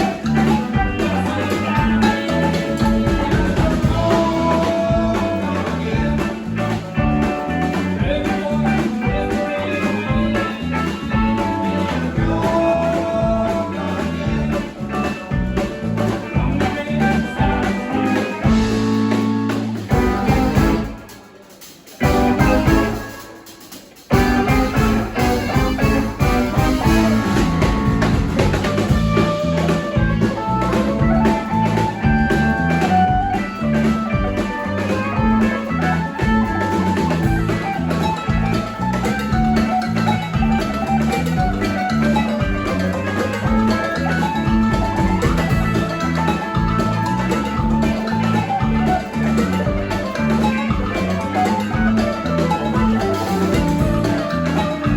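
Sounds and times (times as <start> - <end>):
live band playing: 0.0 - 54.9.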